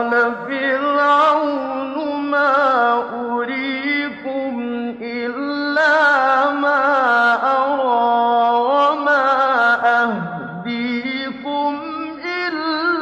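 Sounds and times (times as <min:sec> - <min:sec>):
man chanting recitation: 0:00.0 - 0:13.0.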